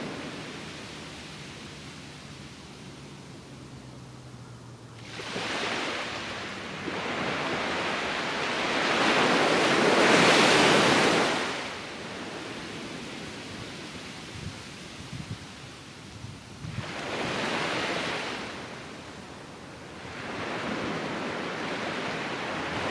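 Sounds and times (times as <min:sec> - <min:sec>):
ocean waves on sandy beach: 0:00.0 - 0:22.9.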